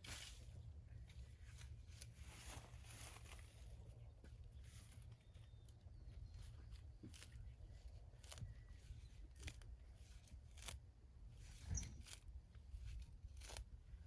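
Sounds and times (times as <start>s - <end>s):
shovel scraping dry soil: 0.0s - 5.2s, 6.6s - 14.0s.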